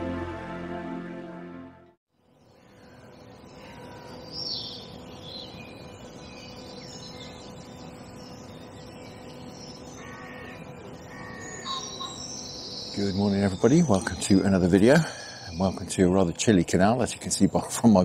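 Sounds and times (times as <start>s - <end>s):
steady background hiss: 2.2s - 18.0s
birdsong: 2.4s - 18.0s.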